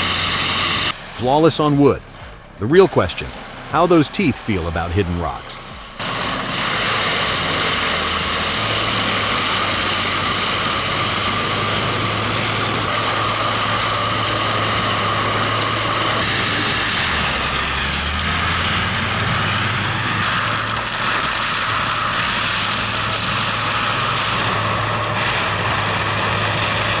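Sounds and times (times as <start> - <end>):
cutting head whine: 0.0 - 27.0
diesel engine running hard: 0.0 - 27.0.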